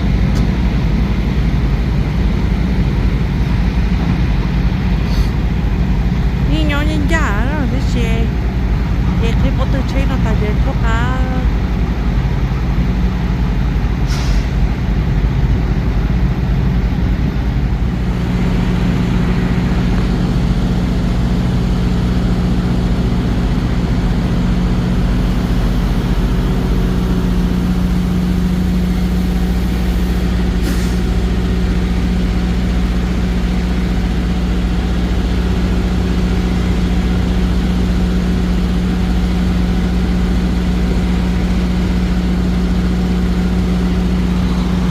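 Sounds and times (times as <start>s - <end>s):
diesel truck engine humming: 0.0s - 44.9s.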